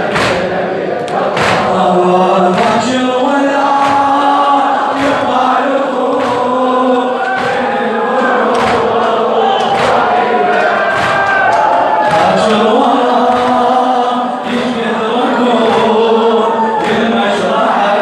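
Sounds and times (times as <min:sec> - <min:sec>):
crowd of men chanting: 0:00.0 - 0:18.0
rhythmic chest-beating thumps: 0:00.0 - 0:18.0.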